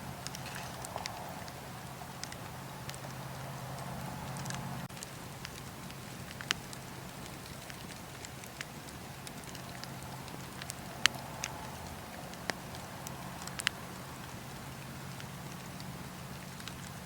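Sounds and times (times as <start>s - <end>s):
low steady hum: 0.0s - 17.0s
wood fire crackling: 0.0s - 17.0s.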